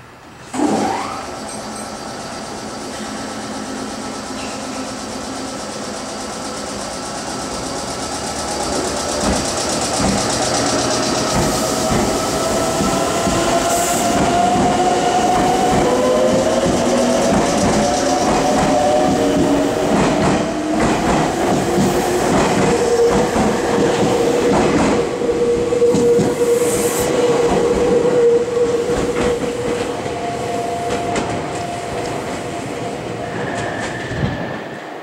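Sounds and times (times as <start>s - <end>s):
electric train accelerating: 0.4s - 35.0s.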